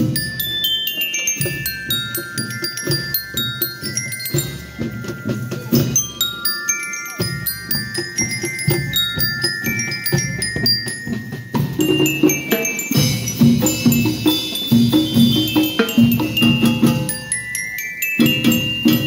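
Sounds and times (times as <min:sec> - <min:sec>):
bell lyres playing melody: 0:00.0 - 0:19.0
steady drum beat: 0:00.0 - 0:19.0.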